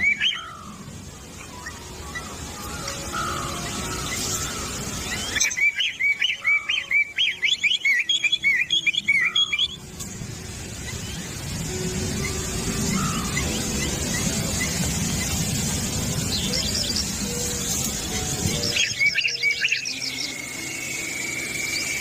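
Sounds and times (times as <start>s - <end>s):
bird chirping fast: 3.1s - 9.8s, 10.8s - 22.0s.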